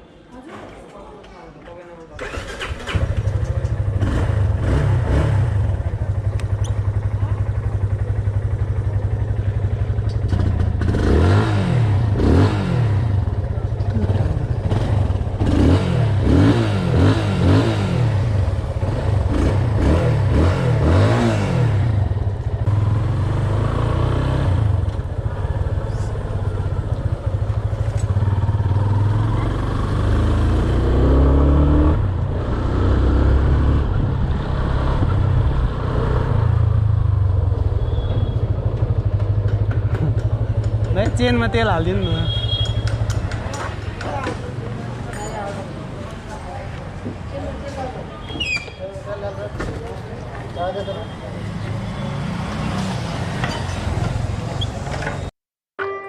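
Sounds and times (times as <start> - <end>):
motorcycle engine revving: 2.2 - 45.1, 51.2 - 55.1.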